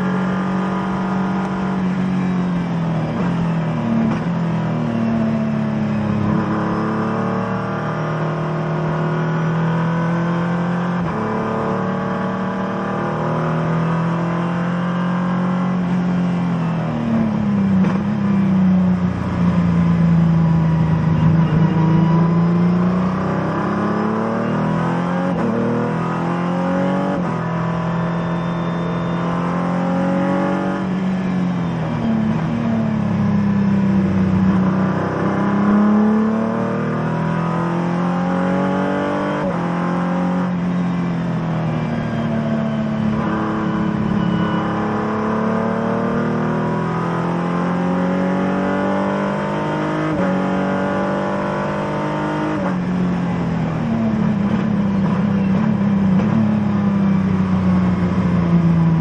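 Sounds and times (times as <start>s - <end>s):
race car engine accelerating: 0.0s - 18.3s, 19.1s - 59.0s.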